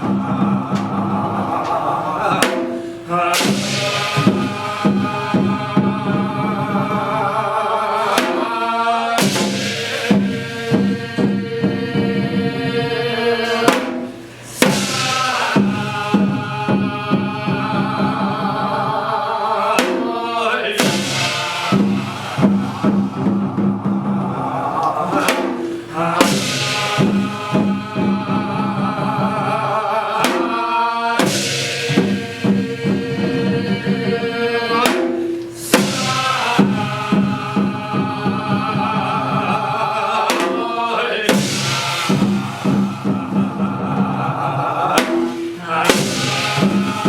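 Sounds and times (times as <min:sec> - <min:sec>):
chanted singing with held notes: 0:00.0 - 0:47.0
drum and percussion: 0:00.0 - 0:47.0.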